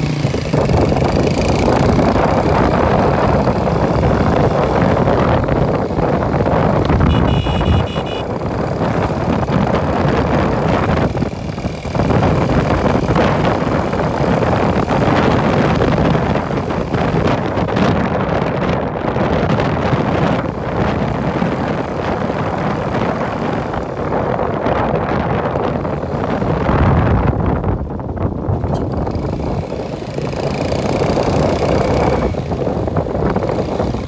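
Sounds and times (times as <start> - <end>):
motorcycle engine running: 0.0 - 34.0
wind buffeting microphone: 0.0 - 34.0.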